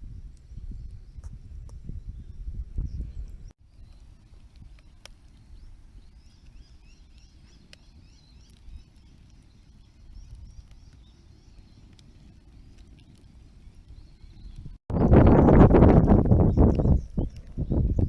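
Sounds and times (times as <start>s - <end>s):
small birds chirping: 0.4s - 18.0s.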